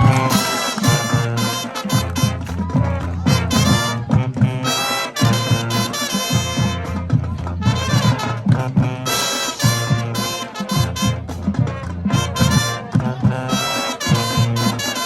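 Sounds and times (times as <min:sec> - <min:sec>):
low drum beat: 0:00.0 - 0:14.8
swing band brass: 0:00.0 - 0:15.0.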